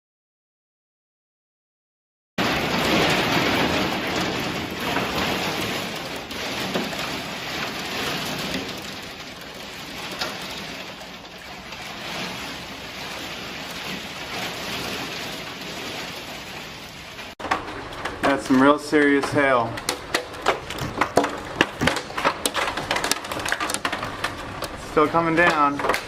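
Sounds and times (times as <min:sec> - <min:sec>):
heavy rain downpour: 0:02.4 - 0:26.0.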